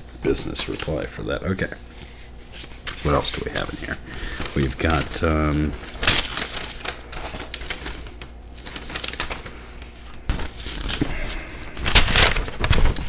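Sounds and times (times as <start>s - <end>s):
paper rustling and crinkling: 0.3s - 13.0s.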